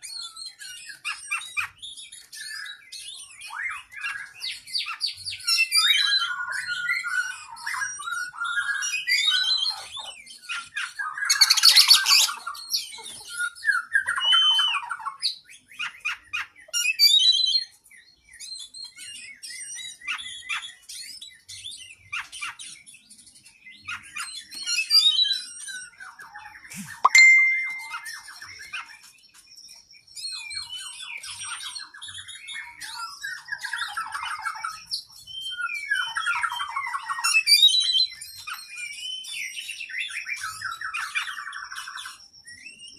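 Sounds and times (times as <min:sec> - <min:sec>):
bird singing varied phrases: 0:00.1 - 0:42.9.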